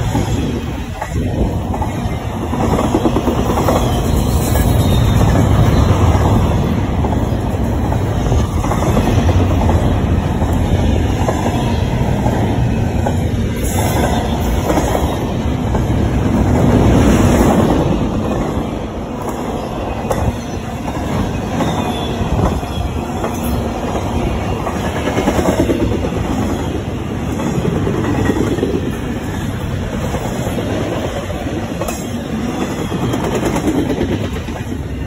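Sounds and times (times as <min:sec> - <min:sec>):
steel wheels rumbling on rails: 0:00.0 - 0:35.0.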